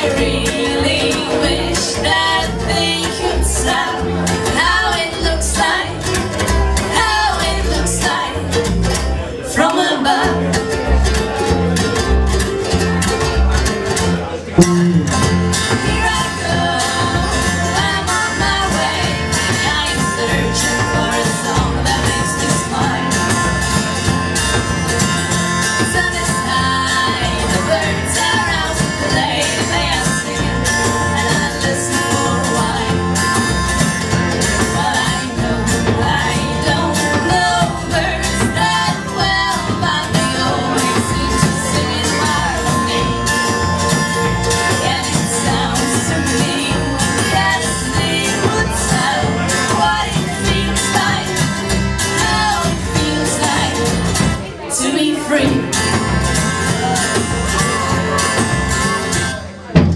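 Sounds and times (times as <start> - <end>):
electric guitar: 0.0 - 59.9
live band playing pop-rock: 0.0 - 59.9.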